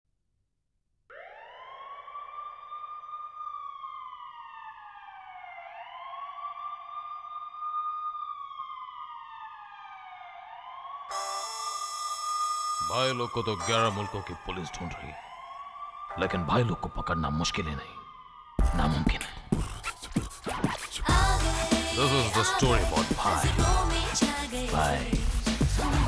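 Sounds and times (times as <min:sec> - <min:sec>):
wailing siren: 0:01.1 - 0:20.1, 0:21.1 - 0:26.0.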